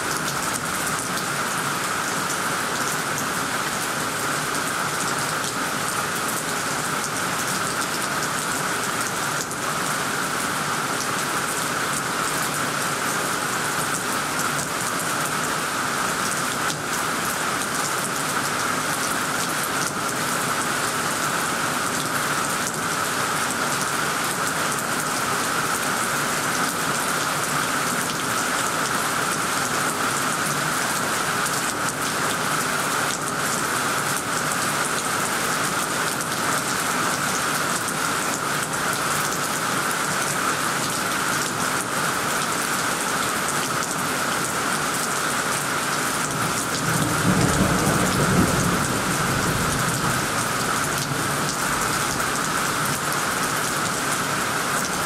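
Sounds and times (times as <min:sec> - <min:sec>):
heavy rain on leaves and roof: 0:00.0 - 0:55.0.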